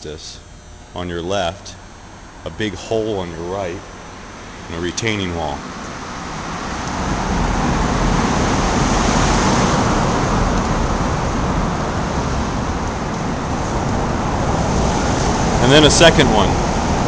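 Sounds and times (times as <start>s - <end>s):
traffic rushing in underpass: 0.9s - 17.0s.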